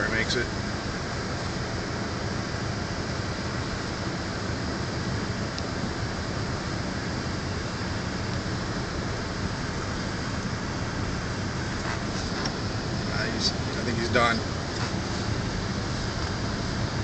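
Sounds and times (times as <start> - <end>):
car cabin engine rumble and hiss: 0.0 - 17.0.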